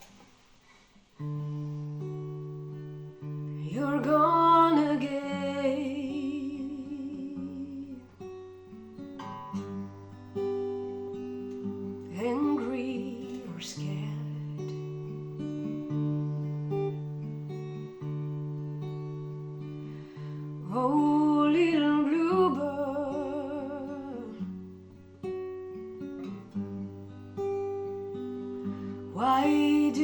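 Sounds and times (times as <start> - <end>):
acoustic guitar plucked chords: 1.2 - 30.0.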